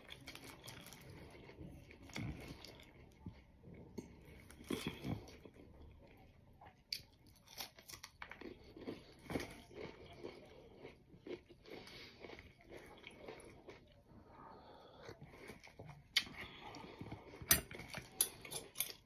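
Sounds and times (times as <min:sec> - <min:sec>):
person chewing: 0:00.0 - 0:19.0.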